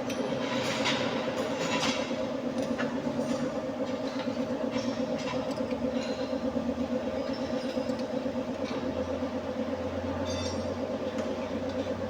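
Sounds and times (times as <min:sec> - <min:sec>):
pulsing machine drone: 0:00.0 - 0:12.0.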